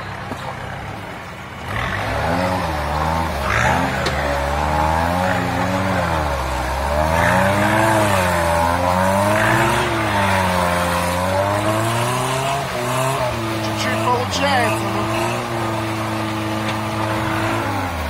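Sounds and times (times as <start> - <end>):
wheels spinning in mud: 0.0 - 18.0
engine revving under load: 1.5 - 18.0.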